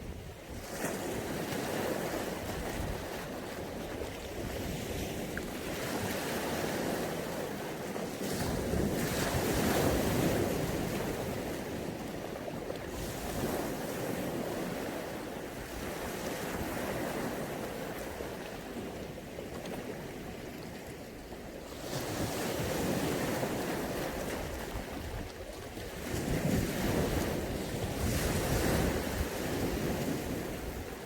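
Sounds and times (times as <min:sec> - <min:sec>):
wind buffeting microphone: 0:00.0 - 0:21.0, 0:21.7 - 0:31.0
waves washing onto shore: 0:00.0 - 0:31.0.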